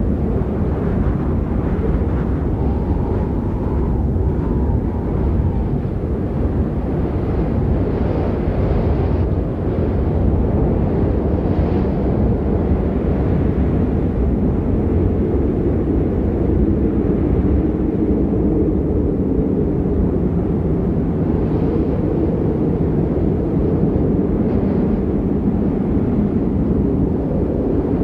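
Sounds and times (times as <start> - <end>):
low rumbling snowstorm wind: 0.0 - 28.0.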